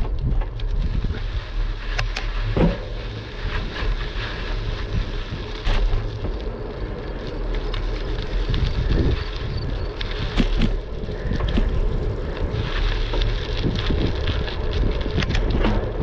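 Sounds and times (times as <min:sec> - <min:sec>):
bike clicks and knocks: 0:00.0 - 0:01.2, 0:01.8 - 0:16.0
bicycle tyres hissing on path: 0:00.0 - 0:16.0
wind buffeting microphone: 0:00.0 - 0:16.0.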